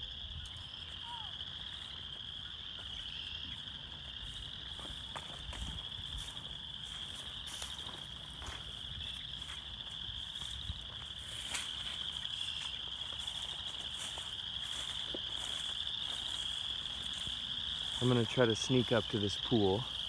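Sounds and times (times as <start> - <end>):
frogs chorus calling: 0.0 - 20.0.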